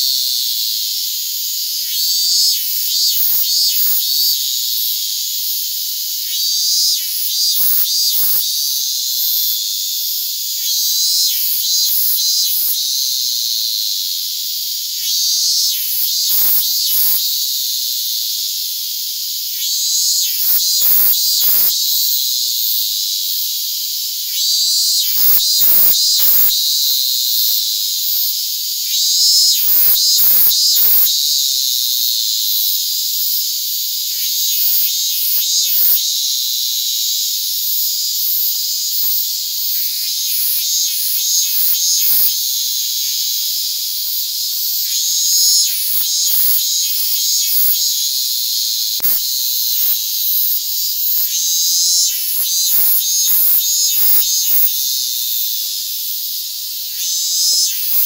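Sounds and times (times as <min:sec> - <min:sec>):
cicadas shrilling: 0:00.0 - 0:58.0.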